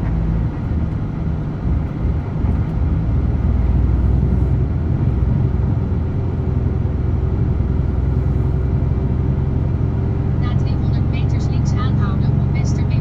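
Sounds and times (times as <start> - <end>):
road noise: 0.0 - 13.0
truck diesel engine droning: 0.0 - 13.0.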